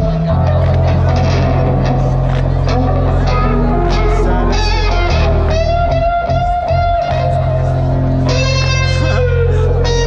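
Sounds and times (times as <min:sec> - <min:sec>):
electric guitar lead: 0:00.0 - 0:10.0
heavy bass: 0:00.0 - 0:10.0.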